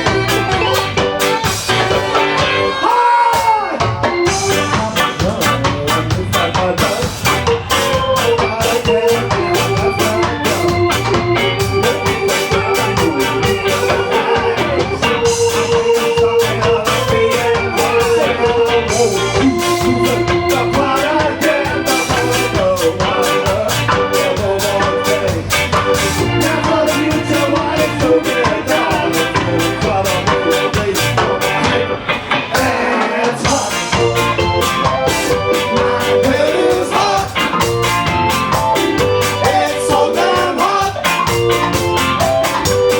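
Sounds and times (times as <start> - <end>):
ska band playing live: 0.0 - 42.9.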